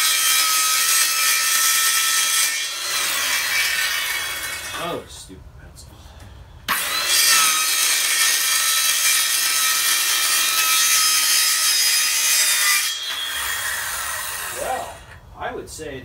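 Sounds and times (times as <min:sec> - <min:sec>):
circular saw cutting hardboard: 0:00.0 - 0:04.9, 0:06.7 - 0:15.2.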